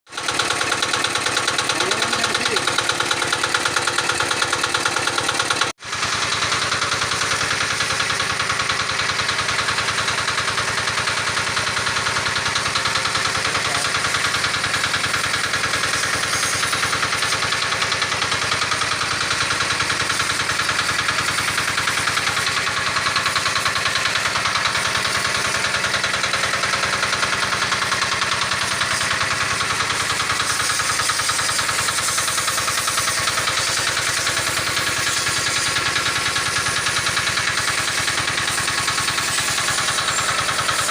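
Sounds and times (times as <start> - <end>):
pressure washer running: 0.1 - 40.9.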